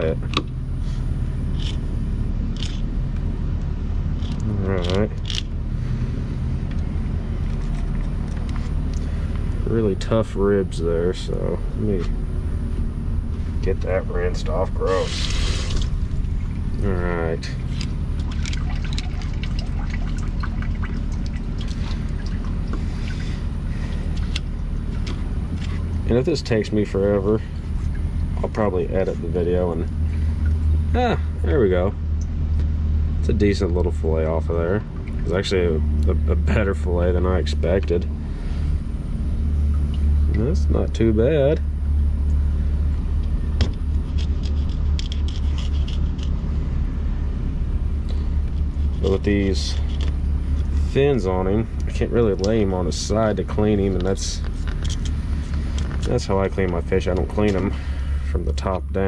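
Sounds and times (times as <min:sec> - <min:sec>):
steady low rumble: 0:00.0 - 0:59.0.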